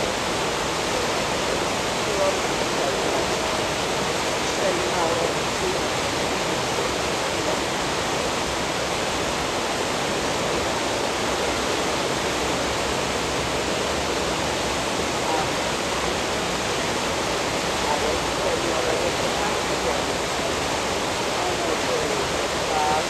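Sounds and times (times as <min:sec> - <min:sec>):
fast-flowing water rushing: 0:00.0 - 0:23.0.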